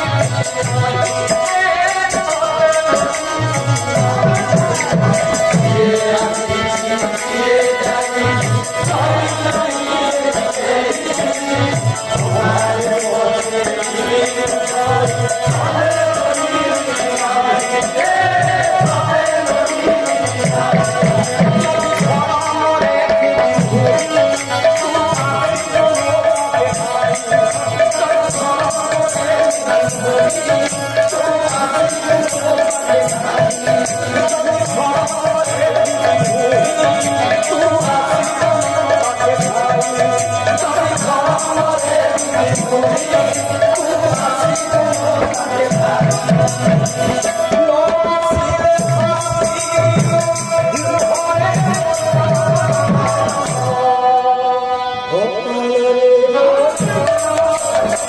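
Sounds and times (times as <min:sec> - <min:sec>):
jingling hand percussion: 0:00.0 - 0:54.1, 0:56.4 - 0:58.0
group singing devotional song: 0:00.0 - 0:58.0.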